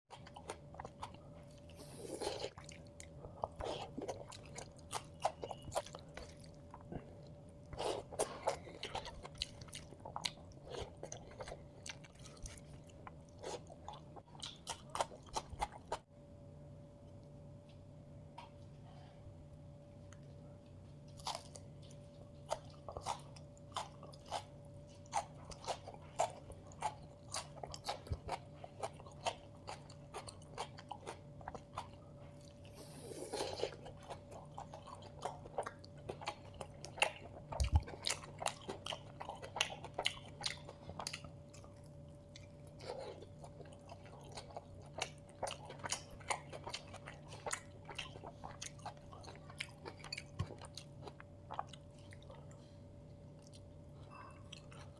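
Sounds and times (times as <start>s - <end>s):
wet chewing and crunching: 0.1s - 16.1s, 21.0s - 54.9s
faint steady hum: 0.1s - 54.9s.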